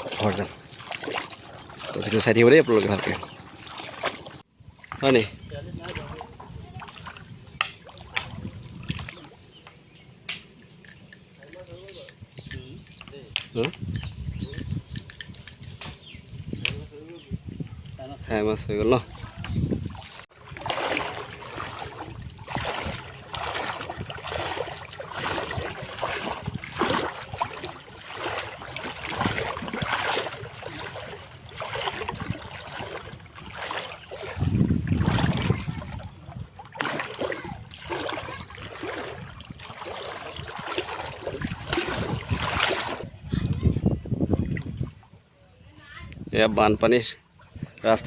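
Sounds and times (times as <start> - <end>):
floodwater splashing and sloshing: 0.0 - 13.8, 18.5 - 46.2, 46.9 - 48.0.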